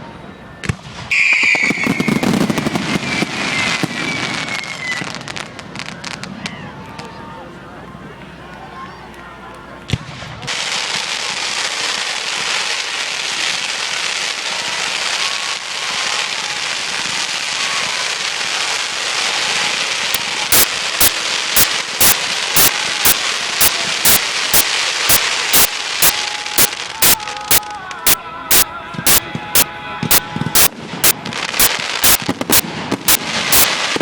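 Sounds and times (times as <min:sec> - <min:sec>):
sharp loud firework bangs: 0:00.6 - 0:06.6, 0:09.9 - 0:27.6, 0:28.5 - 0:34.0
fireworks crackling: 0:00.6 - 0:34.0.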